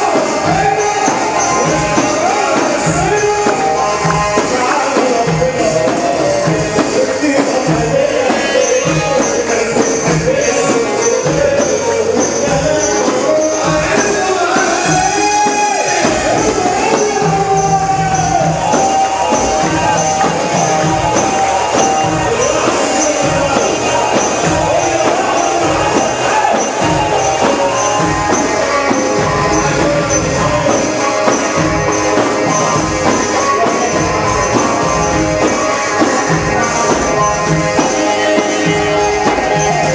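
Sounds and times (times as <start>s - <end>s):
ornamented instrumental melody: 0.0s - 39.9s
tambourine jingling: 0.0s - 39.9s.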